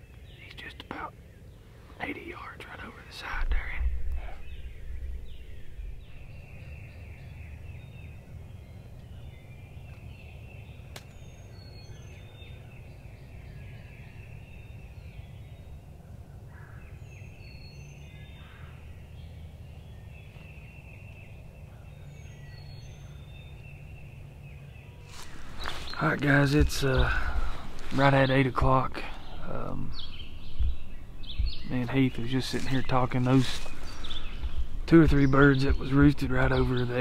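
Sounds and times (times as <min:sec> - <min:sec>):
low rumble of wind: 0:00.0 - 0:37.0.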